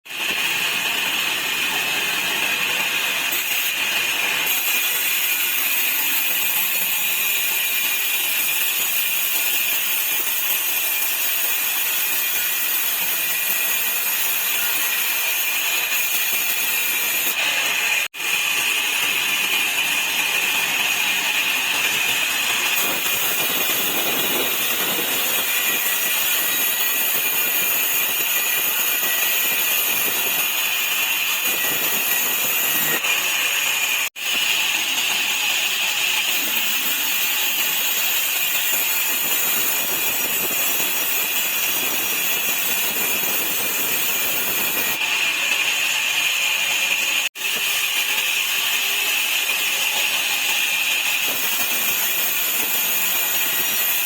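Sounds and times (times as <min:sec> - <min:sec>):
sawmill saw cutting wood: 0:00.1 - 0:54.0.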